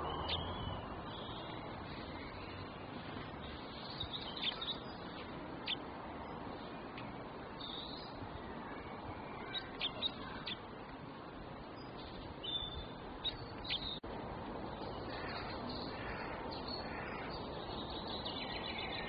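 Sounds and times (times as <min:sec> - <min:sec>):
songbirds chirping: 0:00.0 - 0:19.0
steady background hiss: 0:00.0 - 0:19.0.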